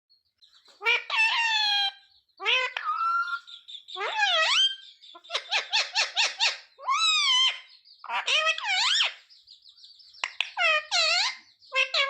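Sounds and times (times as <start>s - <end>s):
parakeet squawking calls: 0.8s - 9.2s, 10.2s - 12.0s.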